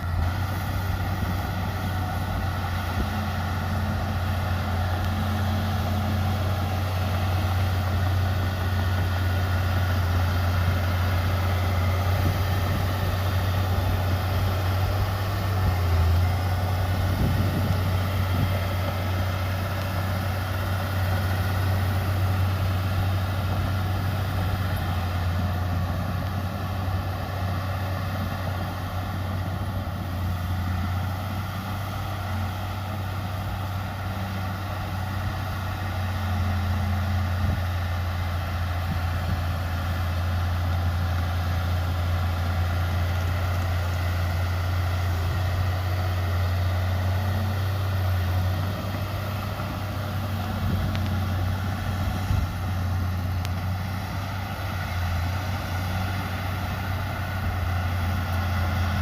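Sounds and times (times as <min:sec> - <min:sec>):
heavy machinery diesel engine droning: 0:00.0 - 0:59.0.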